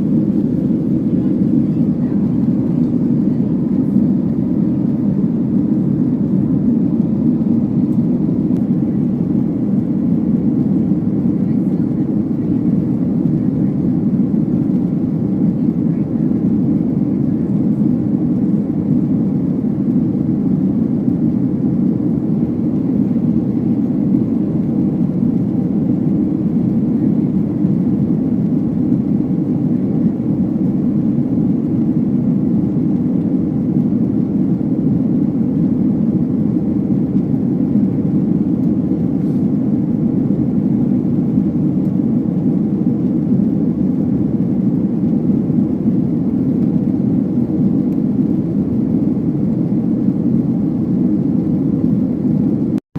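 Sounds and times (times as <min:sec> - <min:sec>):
airliner cabin noise: 0:00.0 - 0:52.8.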